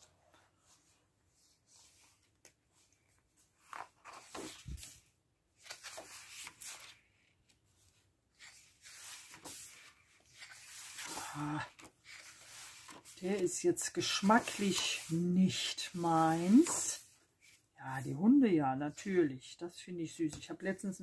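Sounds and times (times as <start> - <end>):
paper rustling: 0.2 - 18.2.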